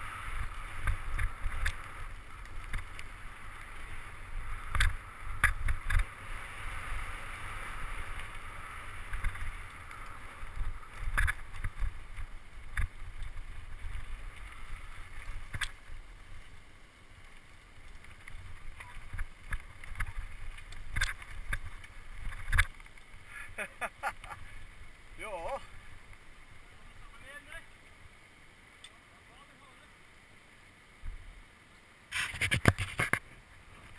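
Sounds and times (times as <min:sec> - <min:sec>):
bike tyres rumbling on gravel: 0:00.0 - 0:28.4.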